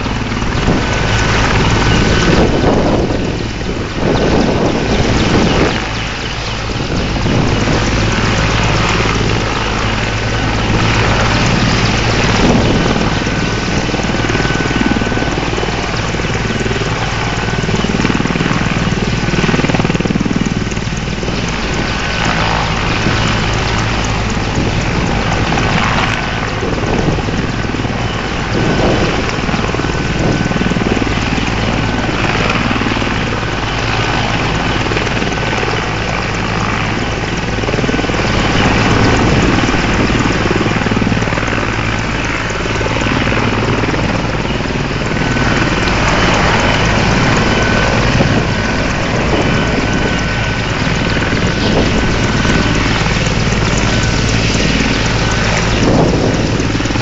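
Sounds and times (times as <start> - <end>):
helicopter engines and rotor running: 0.0 - 57.0
high-pitched engine whine: 0.0 - 57.0.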